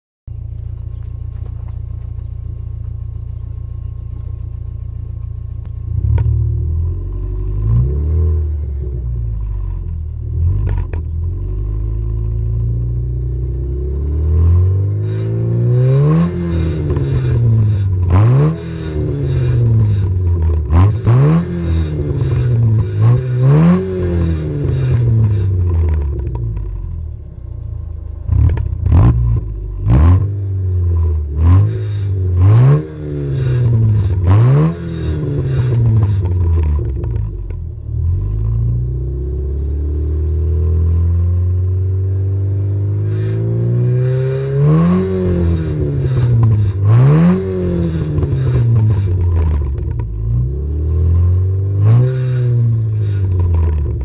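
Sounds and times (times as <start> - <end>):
car engine idling and revving: 0.3 - 54.0.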